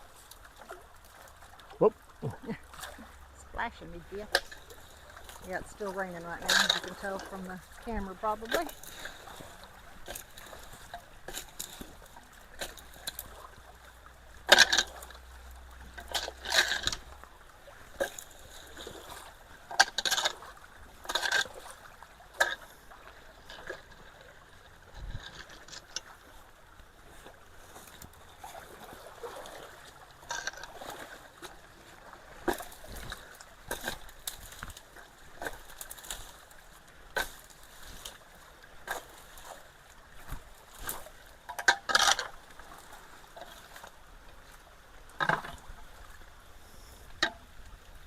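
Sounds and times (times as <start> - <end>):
flowing water: 0.0 - 48.0
water splashing and sloshing: 0.0 - 48.0.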